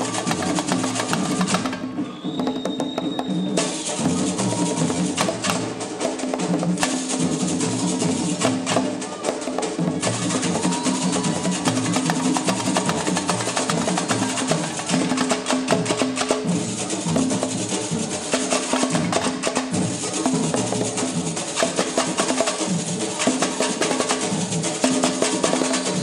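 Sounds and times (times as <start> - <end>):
samba drum group playing: 0.0 - 26.0.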